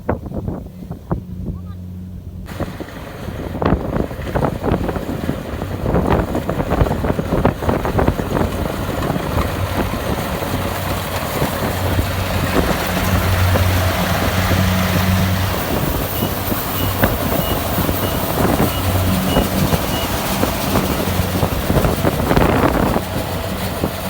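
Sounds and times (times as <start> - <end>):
combine harvester diesel engine drone: 0.1 - 24.0.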